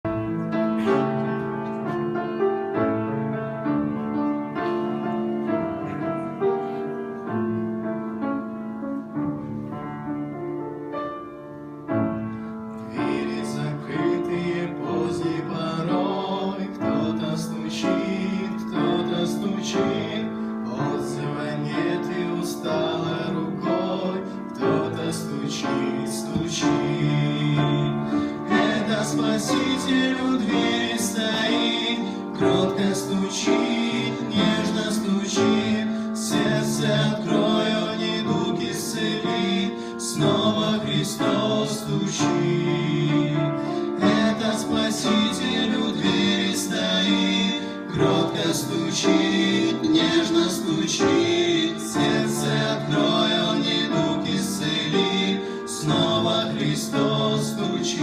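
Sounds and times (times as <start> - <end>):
piano playing chords: 0.0 - 58.0.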